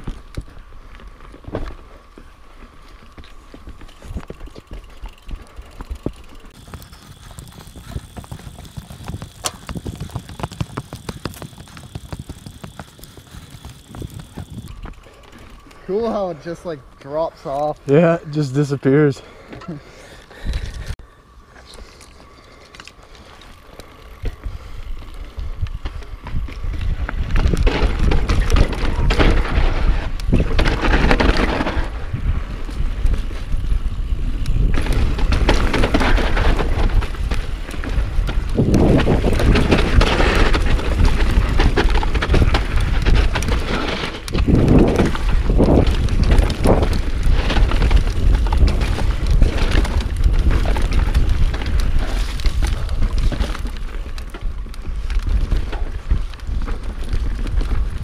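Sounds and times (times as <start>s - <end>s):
bike clattering over bumps: 0.0s - 16.1s, 24.2s - 58.0s
tyres rolling on dirt: 0.0s - 21.0s, 21.9s - 58.0s
wind buffeting microphone: 3.1s - 15.6s, 24.1s - 58.0s.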